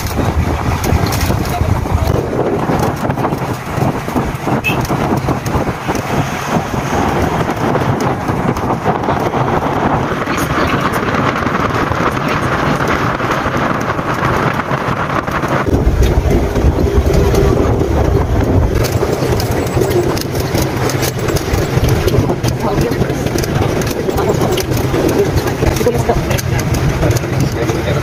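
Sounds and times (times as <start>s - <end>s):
road and engine noise: 0.0s - 28.0s
wind buffeting microphone: 0.0s - 28.0s.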